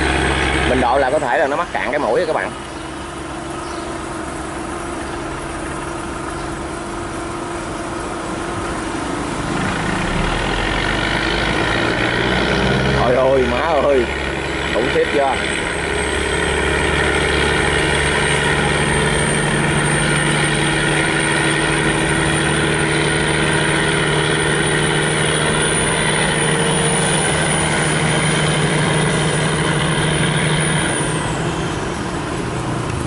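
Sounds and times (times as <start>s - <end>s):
diesel engine droning: 0.0s - 33.0s
high whine: 0.0s - 33.0s.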